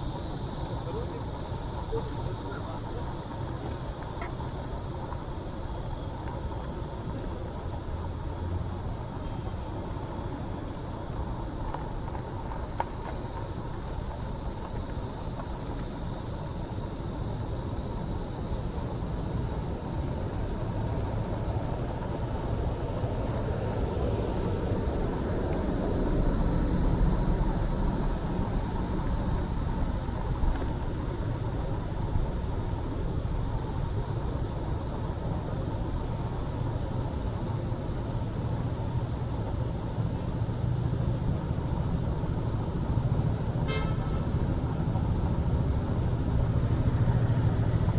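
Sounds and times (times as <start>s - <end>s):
car passing: 0.0s - 47.9s
street traffic rumble: 0.0s - 47.9s.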